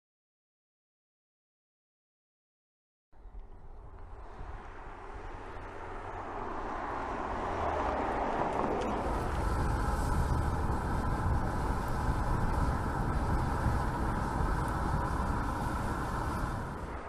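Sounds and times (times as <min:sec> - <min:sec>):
car engine and road noise: 0:03.2 - 0:17.0.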